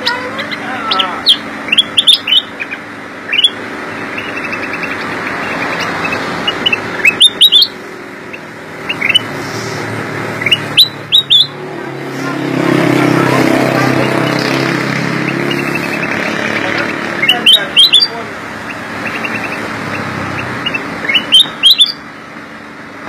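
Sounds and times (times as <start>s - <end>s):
bird chirping: 0.0s - 9.4s, 10.3s - 11.7s, 13.2s - 22.3s.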